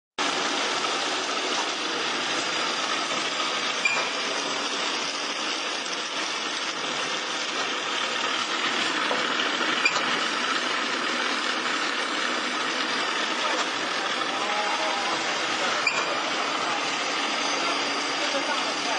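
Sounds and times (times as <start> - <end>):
machine whirring: 0.2 - 18.9.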